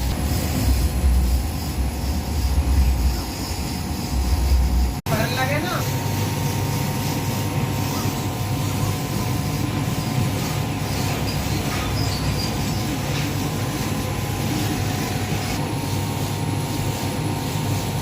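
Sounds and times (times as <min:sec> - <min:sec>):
laser cutting machine humming: 0:00.0 - 0:18.0.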